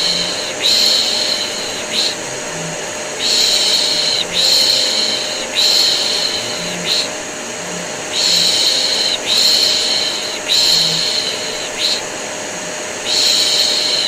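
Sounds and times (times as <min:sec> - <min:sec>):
person shushing: 0:00.0 - 0:12.1
vacuum cleaner droning: 0:00.0 - 0:14.0.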